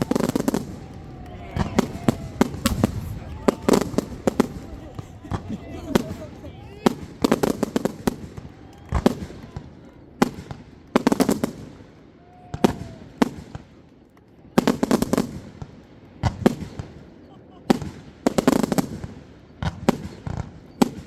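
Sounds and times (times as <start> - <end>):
fireworks bangs: 0.0 - 13.8, 14.6 - 21.0
fireworks crackling: 0.0 - 13.8, 14.6 - 21.0.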